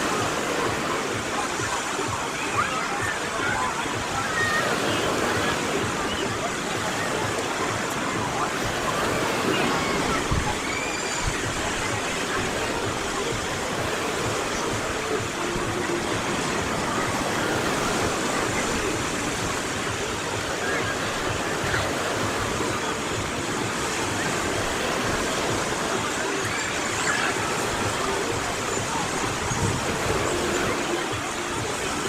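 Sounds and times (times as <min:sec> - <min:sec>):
sea waves washing onto beach: 0:00.0 - 0:32.0.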